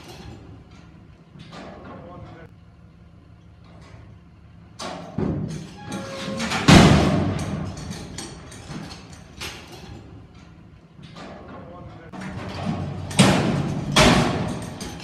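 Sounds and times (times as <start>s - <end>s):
steel gates banging and clanging: 0.0s - 2.5s, 4.8s - 15.0s.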